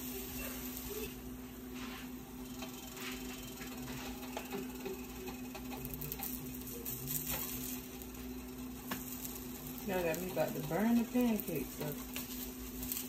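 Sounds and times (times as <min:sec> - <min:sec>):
pancakes sizzling in a skillet: 0:00.0 - 0:13.0
steady low hum: 0:00.0 - 0:13.0.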